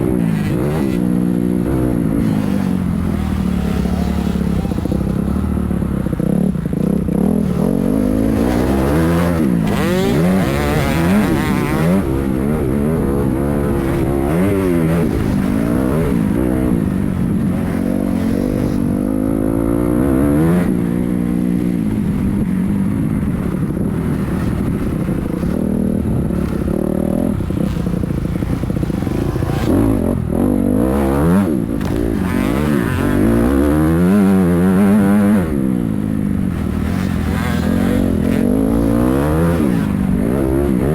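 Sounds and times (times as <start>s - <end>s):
dirt bike engine revving: 0.0s - 22.2s, 23.2s - 40.9s.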